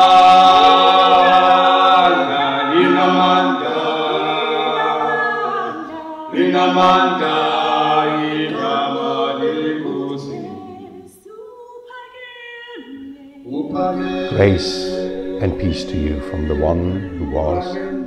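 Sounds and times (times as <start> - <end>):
choir singing unaccompanied: 0.0 - 18.0.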